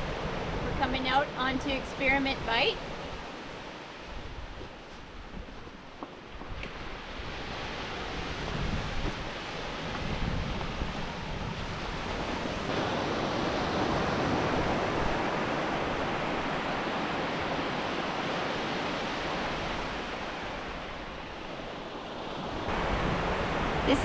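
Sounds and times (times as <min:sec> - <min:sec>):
ocean surf on a beach: 0:00.0 - 0:24.0
wind buffeting the microphone: 0:00.0 - 0:24.0.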